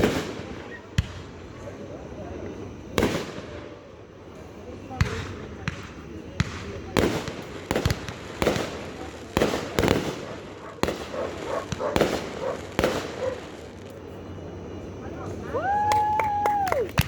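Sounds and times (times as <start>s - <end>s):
fireworks bangs and booms: 0.0s - 16.4s
fireworks crackling: 0.0s - 17.0s.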